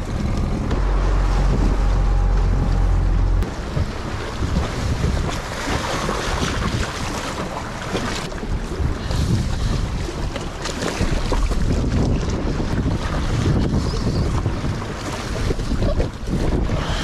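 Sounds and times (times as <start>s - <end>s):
water splashing against rocks: 0.0s - 17.0s
wind buffeting microphone: 0.0s - 17.0s.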